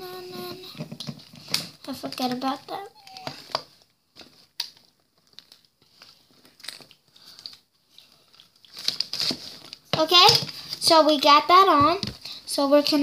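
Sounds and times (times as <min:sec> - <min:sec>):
plastic parts rustling: 0:00.5 - 0:11.0.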